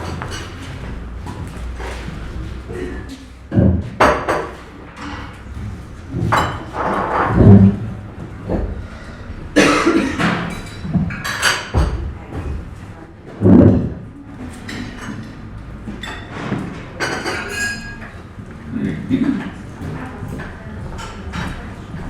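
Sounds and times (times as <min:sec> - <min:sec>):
plates cups and cutlery clinking: 0:00.0 - 0:07.8, 0:09.6 - 0:12.6, 0:14.5 - 0:22.0.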